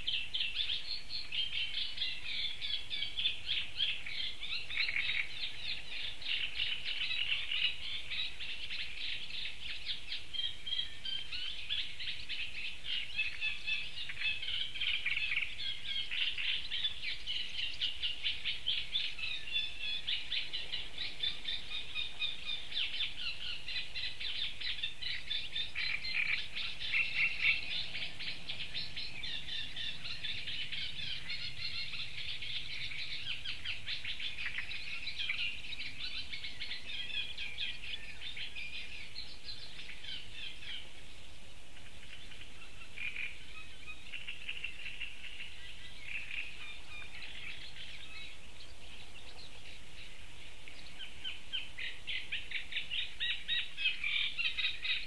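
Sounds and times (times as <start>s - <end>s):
small songbirds singing: 0.0s - 55.0s.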